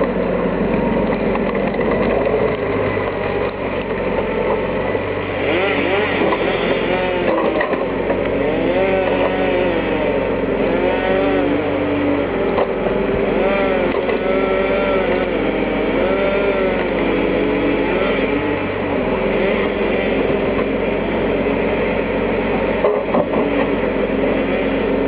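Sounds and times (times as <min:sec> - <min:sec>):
hydraulic whine gliding up and down: 0:00.0 - 0:25.0
tractor engine running under load: 0:00.0 - 0:25.0.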